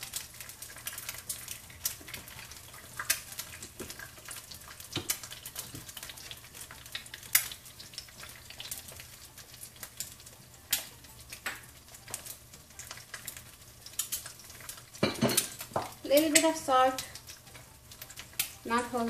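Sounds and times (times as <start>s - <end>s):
eggs sizzling in a skillet: 0.0s - 19.0s.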